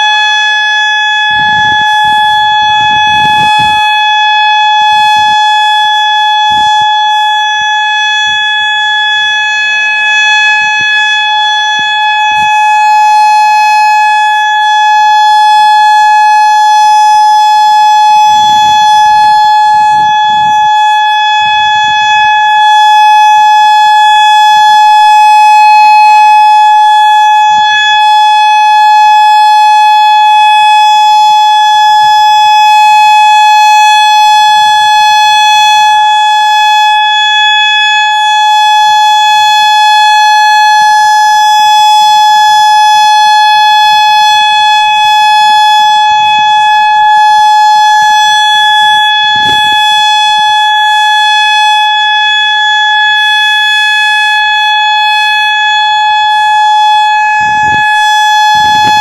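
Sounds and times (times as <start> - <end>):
steady warning siren tone: 0.0 - 59.0.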